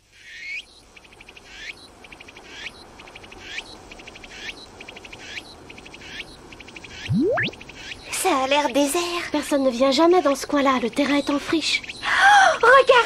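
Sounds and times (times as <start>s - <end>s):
cicadas buzzing: 0.1s - 13.0s.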